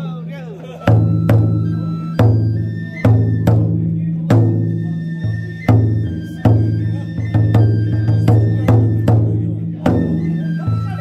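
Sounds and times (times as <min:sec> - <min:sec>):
large drum beaten with sticks: 0:00.0 - 0:11.0.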